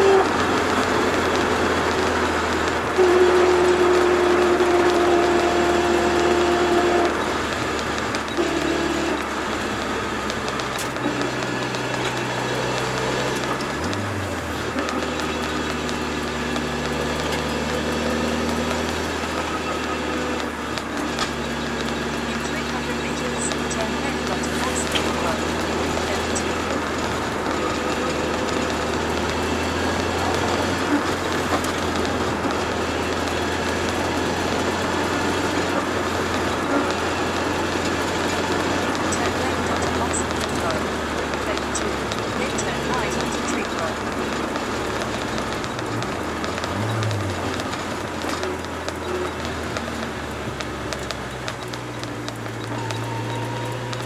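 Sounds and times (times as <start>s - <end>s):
car engine running at low revs: 0.0s - 54.0s
road and tyre noise: 0.0s - 54.0s.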